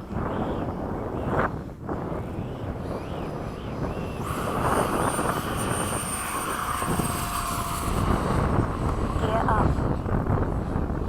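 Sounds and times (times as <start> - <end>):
ducted fan rushing: 0.0 - 11.0
thin high steady whine: 0.0 - 11.0
wind buffeting microphone: 0.0 - 11.0.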